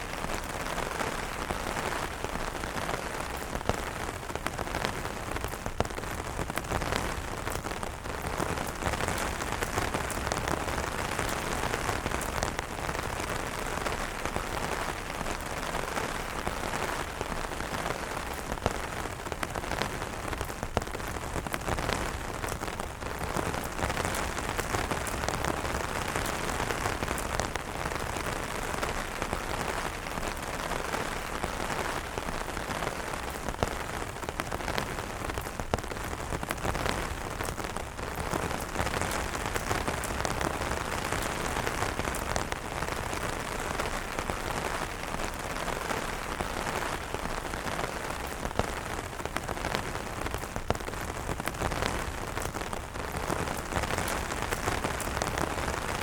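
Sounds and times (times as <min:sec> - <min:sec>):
rain falling on umbrellas: 0:00.0 - 0:56.0.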